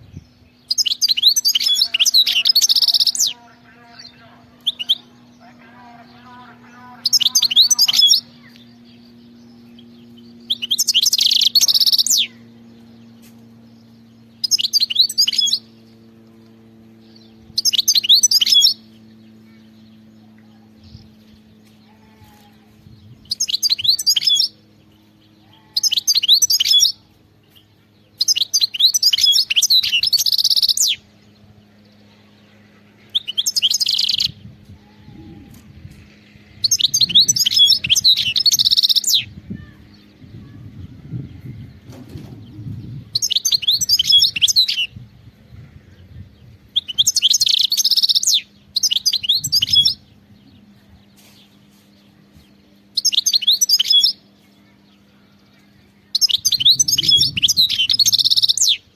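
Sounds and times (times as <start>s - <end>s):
goldfinch twittering song: 0.0s - 58.9s.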